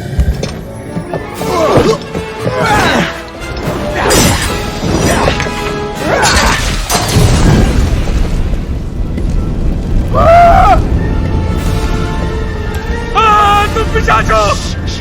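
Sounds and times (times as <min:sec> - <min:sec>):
action film score: 0:00.0 - 0:15.0.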